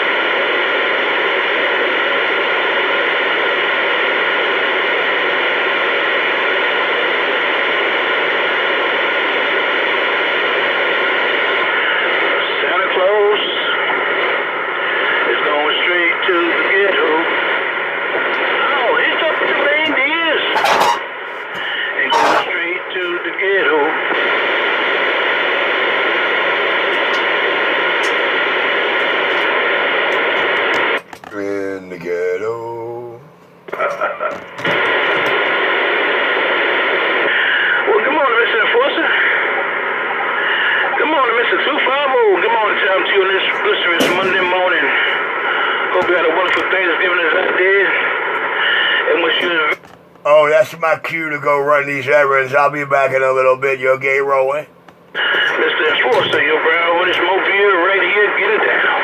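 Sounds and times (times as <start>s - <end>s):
radio static hiss: 0.0s - 59.0s.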